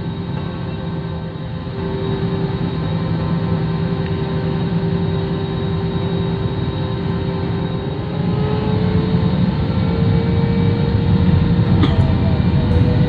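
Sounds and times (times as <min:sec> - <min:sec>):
airliner jet engines rumbling: 0:00.0 - 0:13.0.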